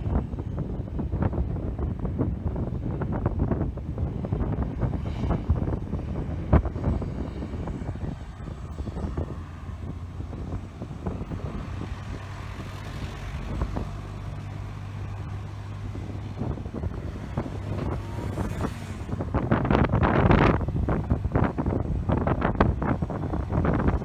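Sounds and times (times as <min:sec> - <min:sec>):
aircraft engine droning: 0:00.0 - 0:24.0
wind buffeting microphone: 0:00.0 - 0:24.0.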